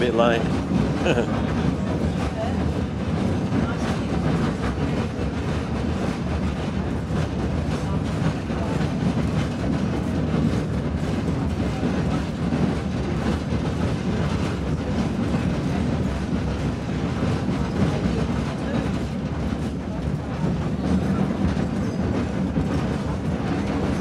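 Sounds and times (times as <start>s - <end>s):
wheels rumbling on rails: 0.0s - 24.0s.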